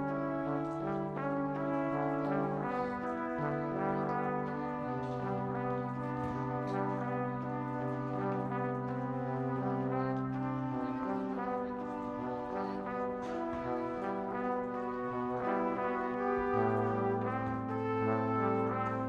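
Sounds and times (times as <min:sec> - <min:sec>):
slow brass ensemble chords: 0:00.0 - 0:19.0.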